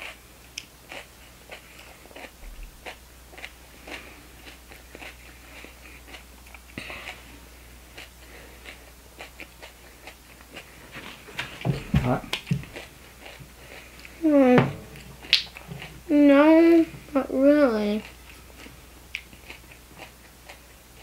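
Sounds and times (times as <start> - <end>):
child chewing crunchy pepper: 0.0 - 21.0.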